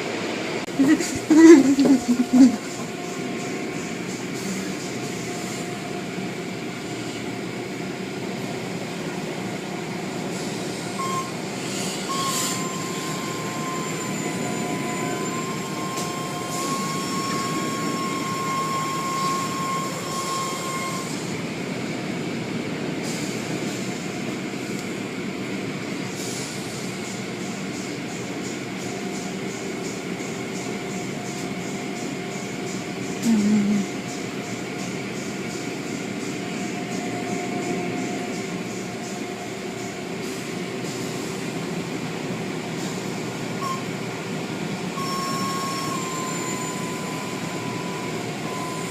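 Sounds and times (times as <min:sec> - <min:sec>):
car wash machinery and spray: 0:02.6 - 0:33.2, 0:33.9 - 0:48.9.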